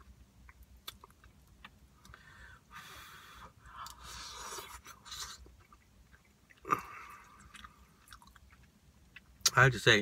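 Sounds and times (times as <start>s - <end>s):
person chewing food: 0.0s - 2.3s, 3.2s - 9.5s.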